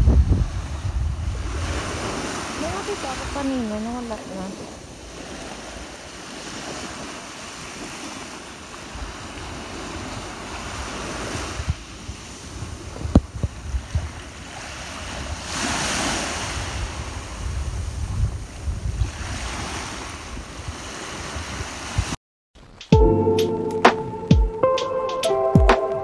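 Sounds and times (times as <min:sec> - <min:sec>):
wind rumble on microphone: 0:00.0 - 0:22.2
small waves breaking on shore: 0:00.2 - 0:22.2.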